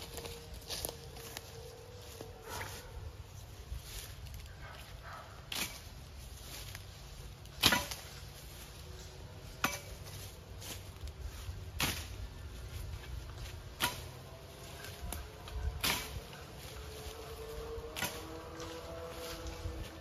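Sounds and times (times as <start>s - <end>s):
blade swishing through undergrowth: 0.0s - 20.0s.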